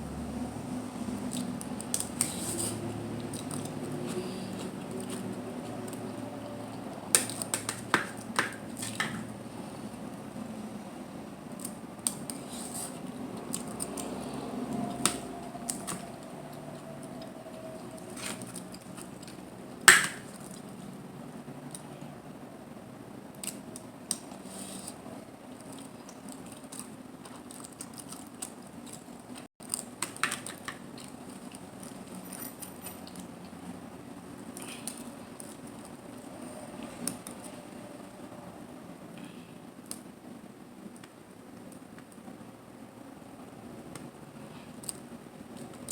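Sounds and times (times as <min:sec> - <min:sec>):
faint background noise: 0:00.0 - 0:45.9.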